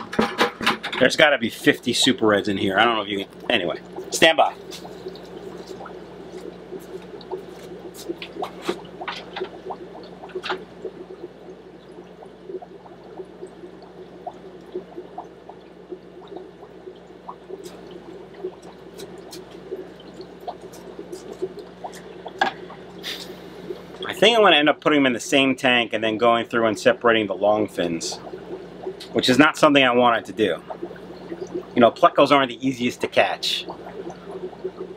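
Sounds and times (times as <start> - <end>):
aquarium water trickling and bubbling: 0.0 - 34.9
steady low hum: 0.0 - 34.9
small drips: 0.9 - 34.9.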